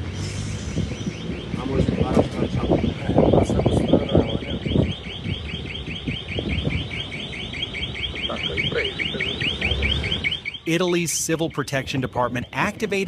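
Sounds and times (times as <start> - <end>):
electronic alarm warbling chirps: 0.3 - 13.0.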